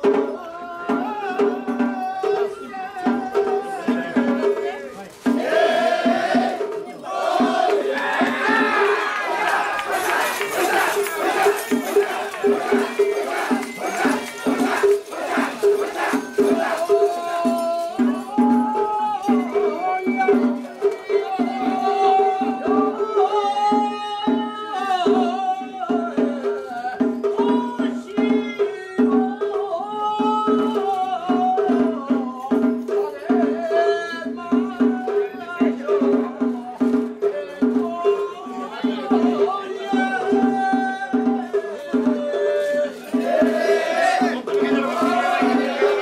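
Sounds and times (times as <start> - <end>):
crowd voices: 0.0 - 30.0, 30.7 - 46.0
pulsing percussion beat: 0.0 - 46.0.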